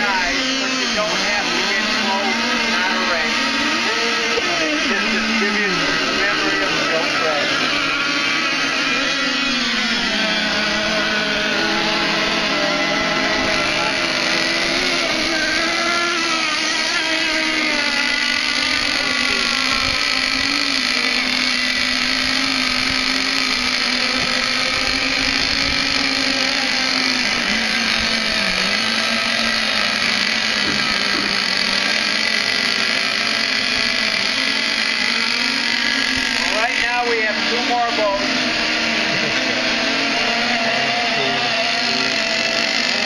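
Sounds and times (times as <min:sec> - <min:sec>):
model boat motors whining: 0:00.0 - 0:43.0.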